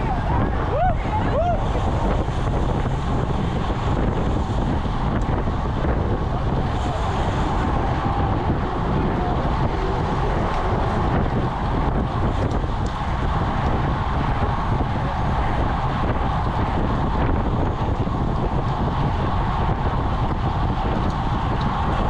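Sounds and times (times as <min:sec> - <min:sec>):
tyres on asphalt: 0:00.0 - 0:22.0
wind rushing over microphone: 0:00.0 - 0:22.0.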